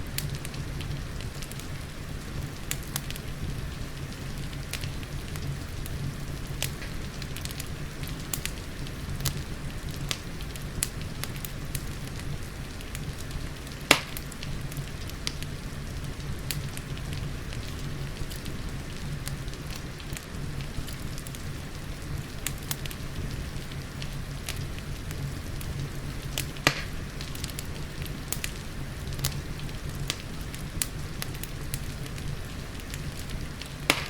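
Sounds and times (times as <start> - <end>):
fireplace crackling: 0.0 - 34.0
loud fire pops: 0.0 - 34.0
rain: 0.0 - 34.0.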